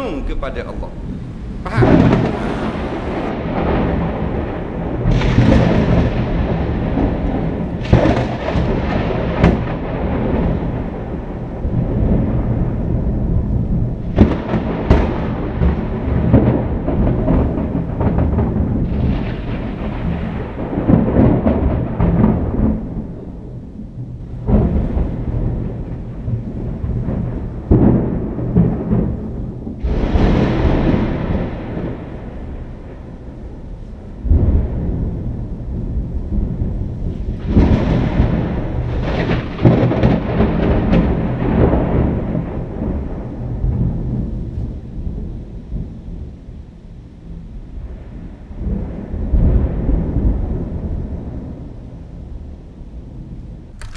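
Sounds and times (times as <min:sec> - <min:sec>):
sharp thunder cracks: 0:00.0 - 0:23.5, 0:24.4 - 0:33.6, 0:34.2 - 0:45.9
thunder rumbling: 0:00.0 - 0:46.5, 0:47.2 - 0:53.7.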